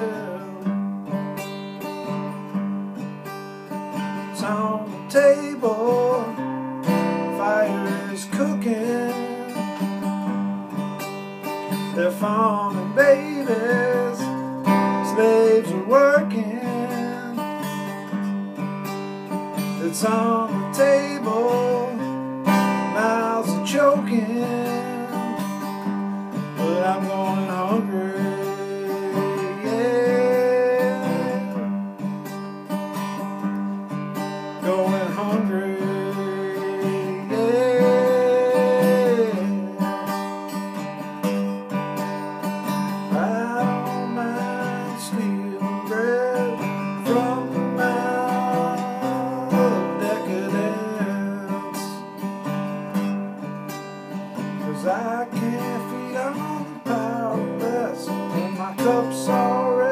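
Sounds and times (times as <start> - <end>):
man singing: 0.0 - 1.2, 4.0 - 10.6, 11.4 - 18.4, 19.5 - 32.1, 33.3 - 41.6, 42.6 - 53.1, 54.4 - 59.9
acoustic guitar strummed: 0.0 - 59.9.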